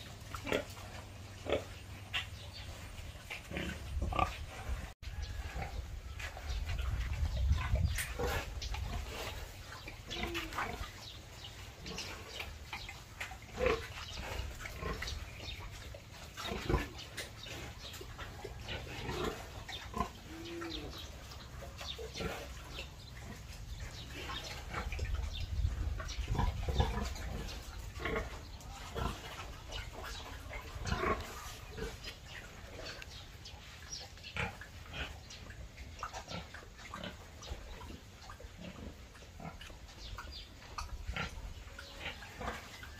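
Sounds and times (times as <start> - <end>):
pigs grunting: 0.0 - 42.9.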